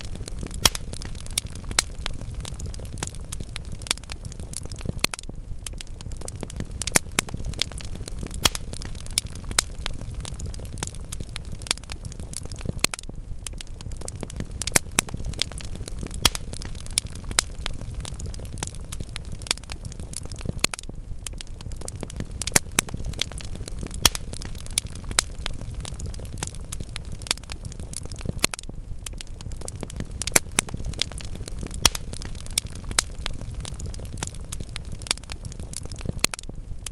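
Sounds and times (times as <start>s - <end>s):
low rumble of flames: 0.0s - 36.9s
sharp pops of burning logs: 0.0s - 36.9s
wood fire crackling: 0.0s - 36.9s.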